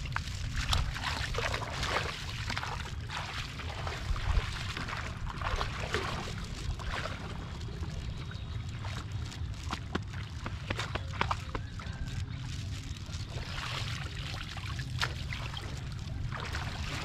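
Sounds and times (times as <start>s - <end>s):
splashing through muddy water: 0.0s - 17.0s.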